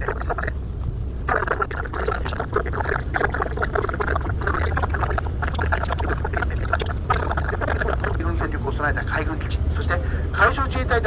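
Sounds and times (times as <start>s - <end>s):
muffled voice over loudspeaker: 0.0s - 0.6s, 1.3s - 11.0s
boat engine rumble: 0.0s - 11.0s.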